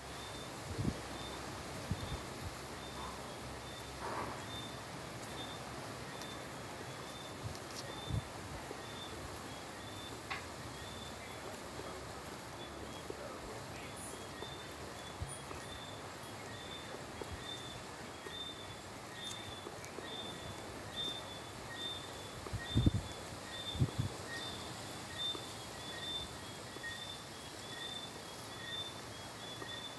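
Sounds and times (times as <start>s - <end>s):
steady hiss: 0.0s - 29.9s.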